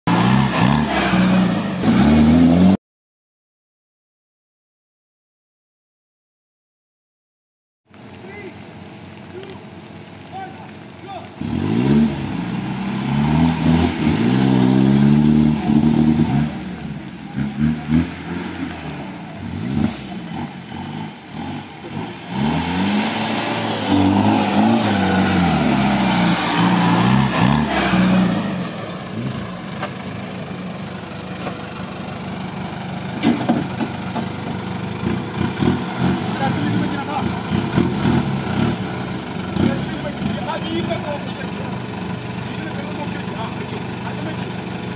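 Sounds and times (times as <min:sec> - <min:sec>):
jeep engine revving: 0:00.1 - 0:02.8, 0:11.3 - 0:44.9.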